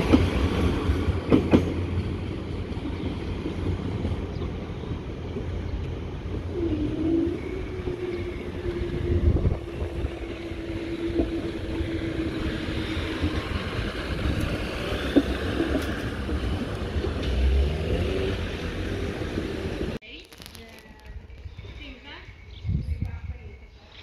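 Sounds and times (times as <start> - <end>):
train rumbling past: 0.0 - 20.0
train whine: 0.0 - 20.0.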